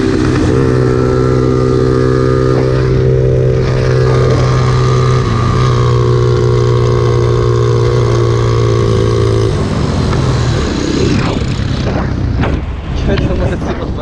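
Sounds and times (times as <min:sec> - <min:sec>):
pit bike engine at high revs: 0:00.0 - 0:12.8
wind rush and riding noise: 0:00.0 - 0:14.0.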